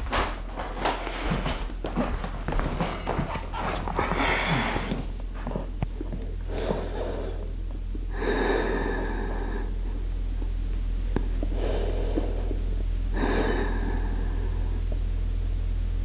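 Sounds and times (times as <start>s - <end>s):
low steady hum: 0.0s - 16.0s
person breathing deeply: 0.9s - 10.2s, 11.3s - 15.0s.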